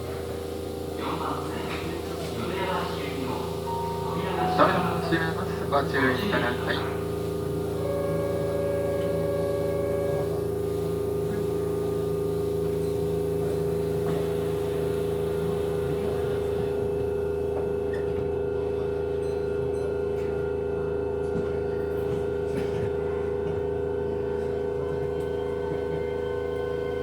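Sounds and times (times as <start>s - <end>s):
electric train inverter whine: 0.0s - 27.0s.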